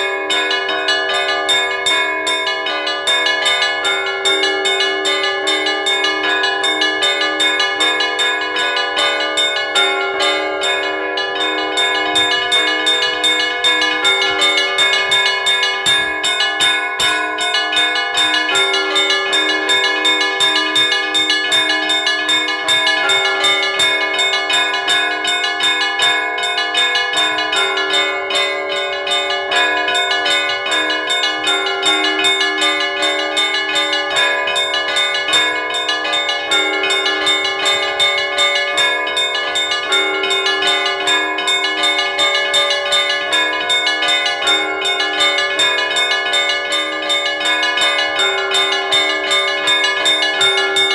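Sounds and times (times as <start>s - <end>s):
church bells pealing: 0.0s - 50.9s.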